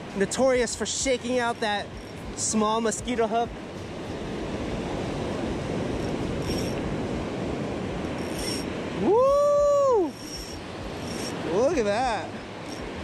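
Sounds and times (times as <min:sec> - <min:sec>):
surf washing over sand: 0:00.0 - 0:13.0
wind on microphone: 0:01.5 - 0:13.0.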